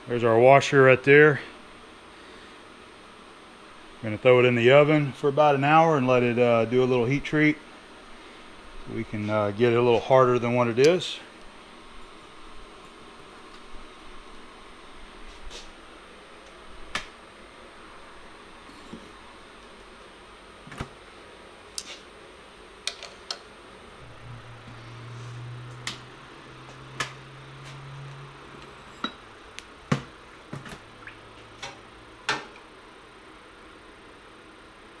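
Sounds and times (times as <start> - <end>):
low steady oven hum: 0.0 - 35.0.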